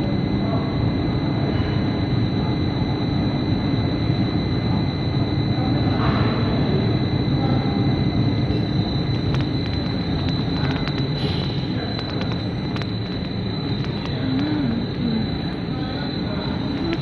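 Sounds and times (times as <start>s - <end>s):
machinery low rumble: 0.0s - 17.0s
machinery steady whine: 0.0s - 17.0s.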